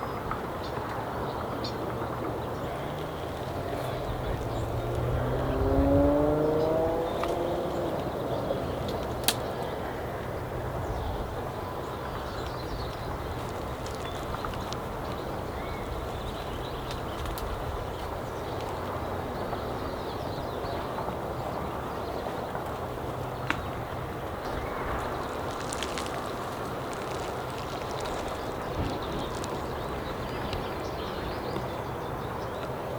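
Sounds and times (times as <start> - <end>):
wind rushing over microphone: 0.4 - 22.2, 23.0 - 32.4.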